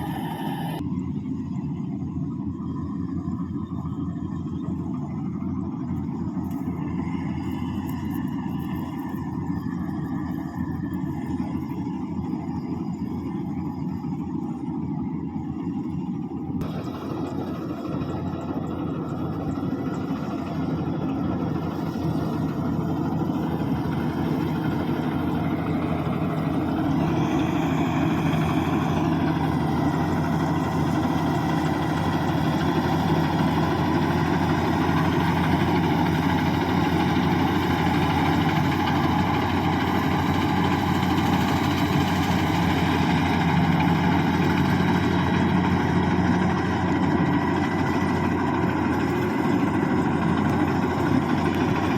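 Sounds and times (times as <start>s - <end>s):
combine harvester engine running: 0.0s - 51.9s
high-pitched whine: 0.0s - 51.9s.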